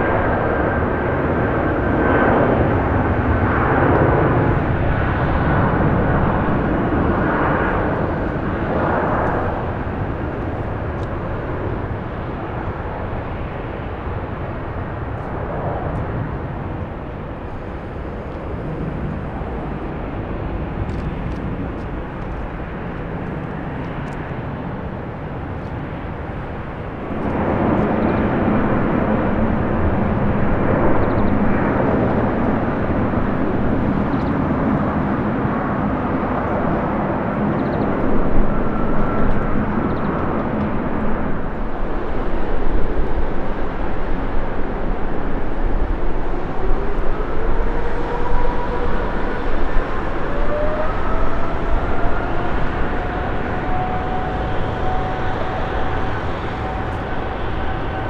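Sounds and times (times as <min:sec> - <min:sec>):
jet engines low hum: 0:00.0 - 0:58.0
jet engines roaring: 0:00.0 - 0:58.0.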